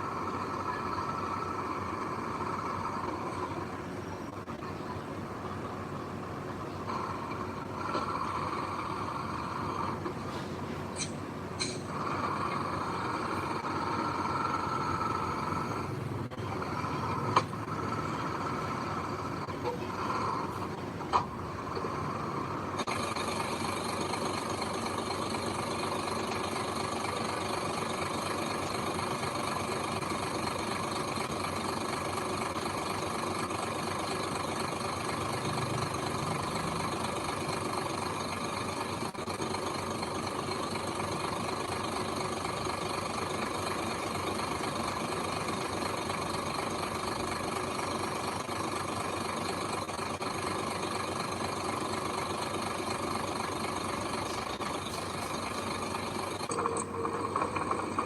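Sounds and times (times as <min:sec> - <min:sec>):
machine engine humming: 0:00.0 - 0:58.0.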